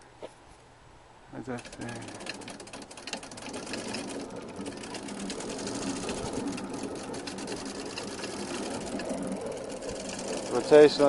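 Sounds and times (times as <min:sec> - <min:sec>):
steady hum: 0:00.0 - 0:11.0
mechanical clicking and rattling: 0:01.4 - 0:11.0.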